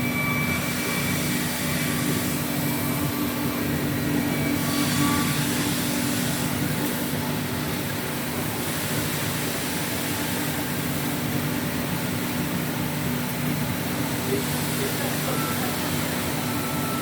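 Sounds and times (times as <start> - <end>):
cnc router machinery humming: 0.0 - 17.0.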